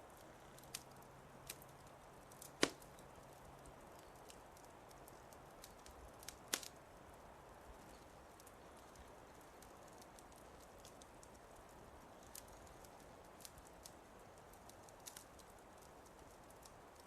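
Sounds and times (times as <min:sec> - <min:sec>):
fireplace fire crackling faintly: 0:00.0 - 0:17.0.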